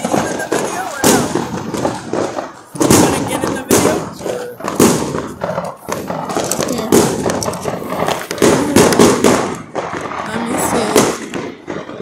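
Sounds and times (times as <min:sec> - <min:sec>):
firecracker bangs: 0:00.0 - 0:12.0
firework crackling: 0:00.0 - 0:12.0.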